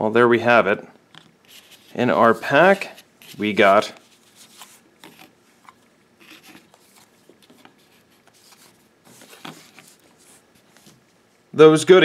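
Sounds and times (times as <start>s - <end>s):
cards rustling and set down: 1.1s - 11.0s.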